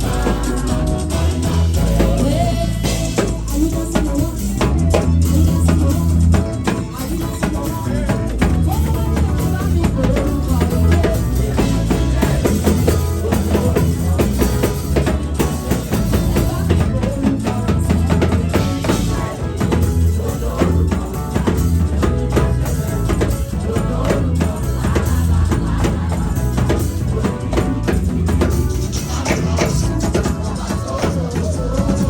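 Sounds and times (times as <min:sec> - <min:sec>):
drum kit: 0:00.0 - 0:32.0
heavy bass: 0:00.0 - 0:32.0
praise band playing dance music: 0:00.0 - 0:32.0.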